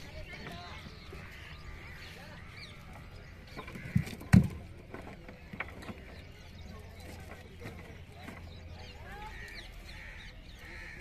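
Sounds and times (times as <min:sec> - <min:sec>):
faint bird calls: 0:00.0 - 0:11.0.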